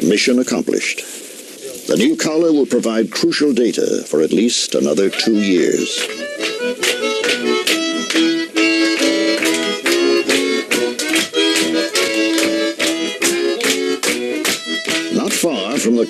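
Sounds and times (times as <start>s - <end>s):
folk music with free-reed instrument: 0.1s - 16.0s.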